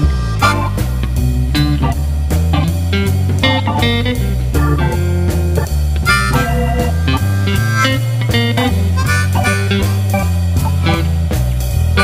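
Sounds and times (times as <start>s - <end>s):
beat: 0.0s - 12.0s
plucked guitar: 0.0s - 12.0s
steady bass line: 0.0s - 12.0s.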